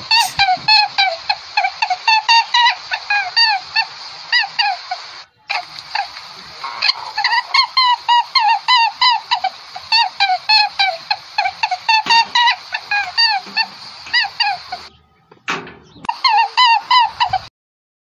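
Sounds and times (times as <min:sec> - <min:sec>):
flock of birds calling: 0:00.0 - 0:17.5.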